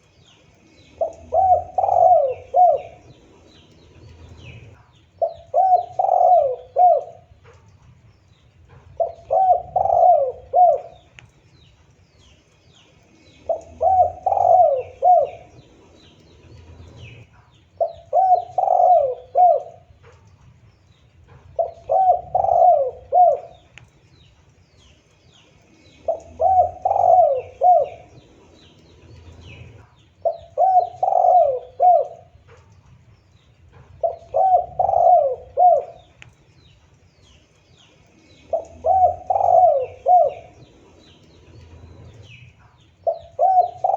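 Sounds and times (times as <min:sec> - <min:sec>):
small birds chirping: 0:00.0 - 0:43.9
dove cooing: 0:00.7 - 0:11.3, 0:13.1 - 0:24.9, 0:25.7 - 0:43.9.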